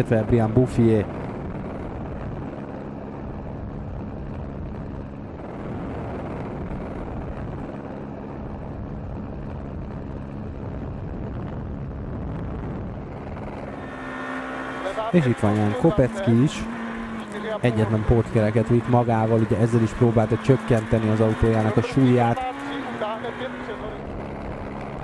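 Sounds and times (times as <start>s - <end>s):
steady engine drone: 0.0s - 25.0s.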